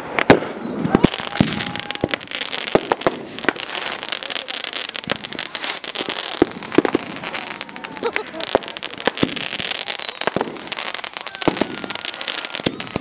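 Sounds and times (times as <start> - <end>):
fireworks bangs and pops: 0.0 - 13.0
fireworks crackling: 0.0 - 13.0.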